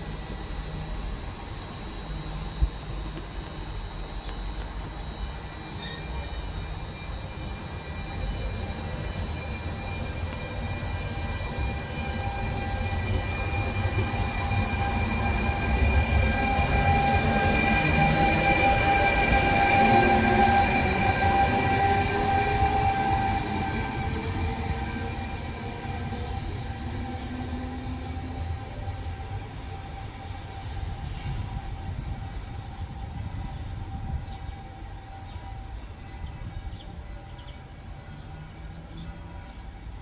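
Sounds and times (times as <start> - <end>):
high-pitched whines: 0.0 - 35.8.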